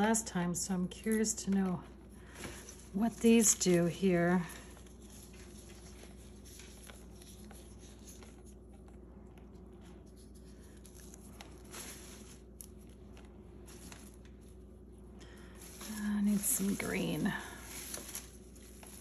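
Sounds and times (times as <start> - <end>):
faint steady hum: 0.0 - 19.0
petals rustling on paper: 0.8 - 19.0.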